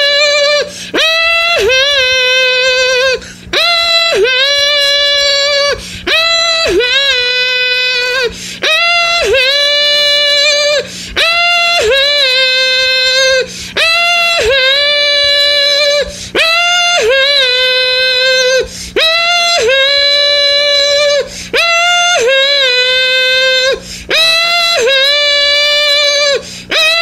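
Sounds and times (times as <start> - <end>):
woman humming a melody: 0.0 - 27.0.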